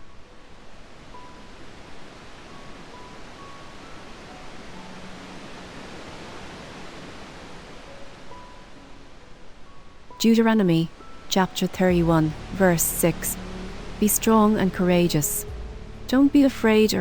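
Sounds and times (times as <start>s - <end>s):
gentle ocean surf: 0.0s - 17.0s
soft ambient music: 0.0s - 17.0s.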